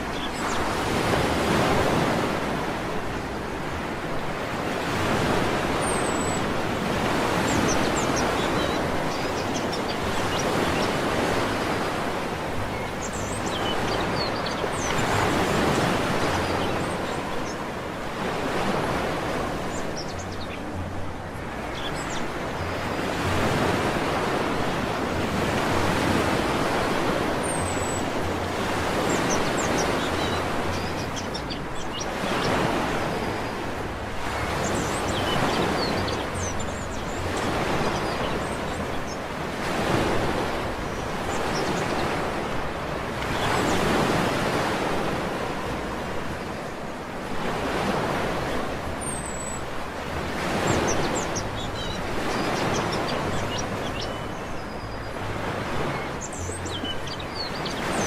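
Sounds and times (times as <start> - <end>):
birds chirping faintly: 0.0 - 58.0.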